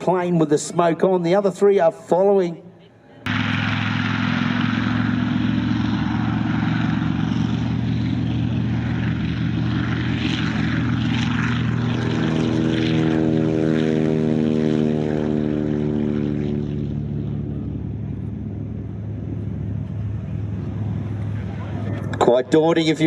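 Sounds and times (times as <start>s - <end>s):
propeller planes droning: 0.0s - 23.0s.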